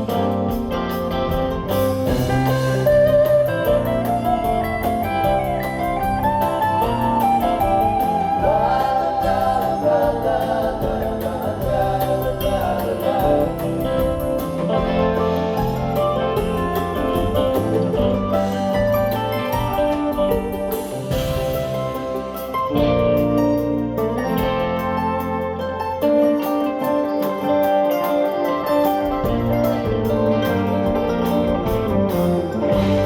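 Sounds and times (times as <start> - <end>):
country-folk band playing: 0.0 - 33.0.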